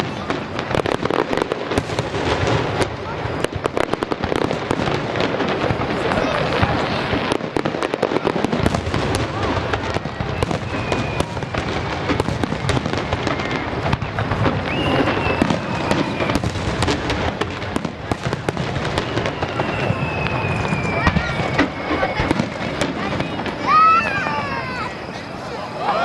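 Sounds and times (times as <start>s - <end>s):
fireworks bursting: 0.0s - 26.0s
fireworks crackling: 0.0s - 26.0s.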